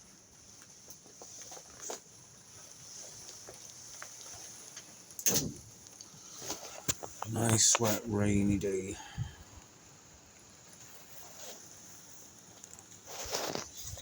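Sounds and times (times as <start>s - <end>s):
light rain pattering: 0.0s - 14.0s
small ticks: 0.3s - 7.6s, 9.5s - 14.0s.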